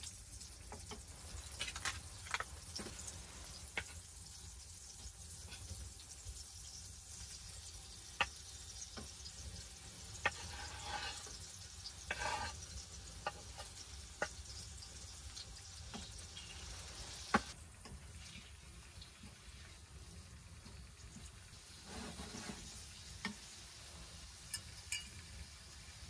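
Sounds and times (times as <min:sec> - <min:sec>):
meat sizzling on metal plate: 0:00.0 - 0:26.0.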